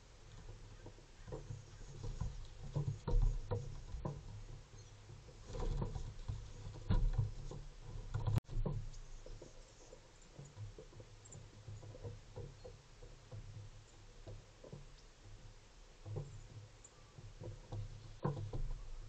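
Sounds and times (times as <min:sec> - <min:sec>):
birds tapping on wooden railing: 0:00.0 - 0:19.0.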